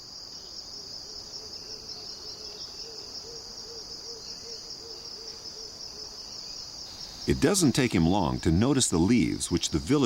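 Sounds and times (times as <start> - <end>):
chorus of forest insects: 0.0 - 10.0.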